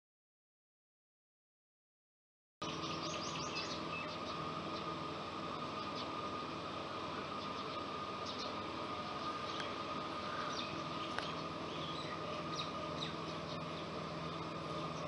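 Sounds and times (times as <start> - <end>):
birds chirping: 2.6 - 15.0.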